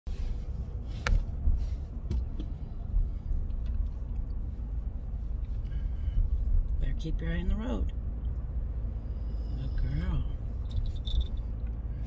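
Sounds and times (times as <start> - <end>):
road rumble inside vehicle cabin: 0.0 - 12.0.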